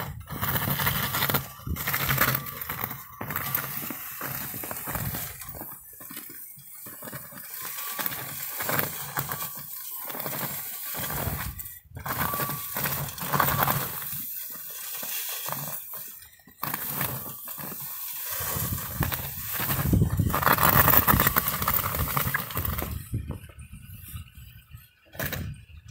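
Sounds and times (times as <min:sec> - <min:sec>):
plow blade scraping snow: 0:00.0 - 0:24.4
chained wheels crunching and clinking: 0:00.0 - 0:25.6.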